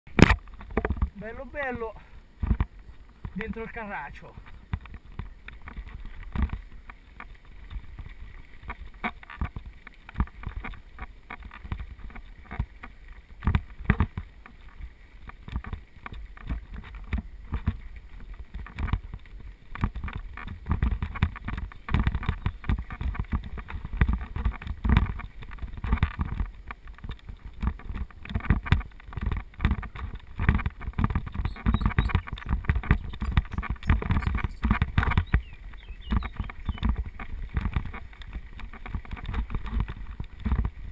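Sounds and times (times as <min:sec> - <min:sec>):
bicycle knocking and rattling: 0:00.1 - 0:01.8, 0:02.4 - 0:40.9
bicycle tyres rumbling: 0:00.1 - 0:40.9
wind on microphone: 0:04.3 - 0:40.9.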